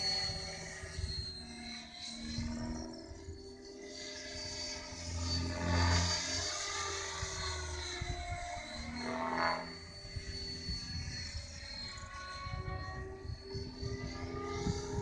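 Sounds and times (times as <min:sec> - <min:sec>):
rc helicopter motor whine and rotor buzz: 0:00.0 - 0:15.0.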